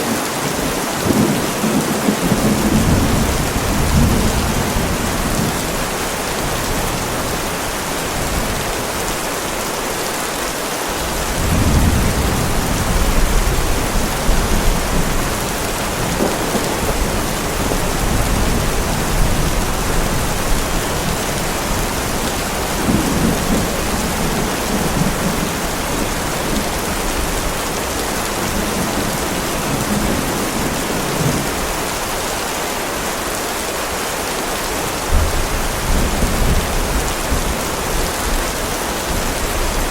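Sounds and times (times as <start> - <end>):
heavy rain: 0.0 - 39.9
rolling thunder: 0.6 - 8.8, 11.1 - 31.8, 35.0 - 39.9.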